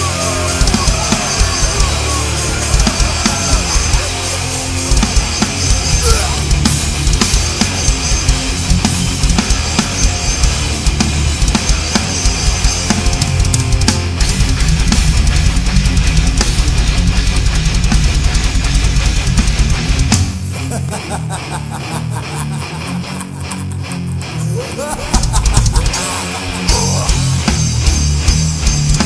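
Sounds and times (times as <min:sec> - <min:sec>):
electric guitar: 0:00.0 - 0:29.0
heavy drum kit: 0:00.0 - 0:29.0.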